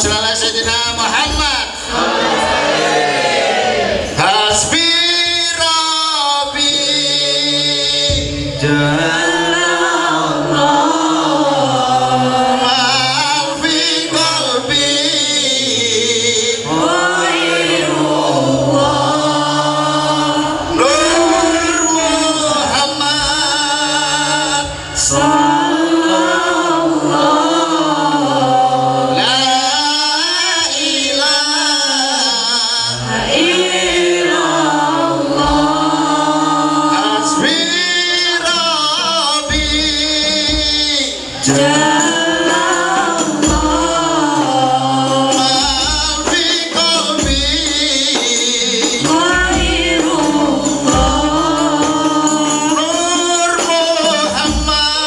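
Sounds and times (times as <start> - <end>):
man singing through microphone: 0.0 - 2.0, 4.1 - 55.0.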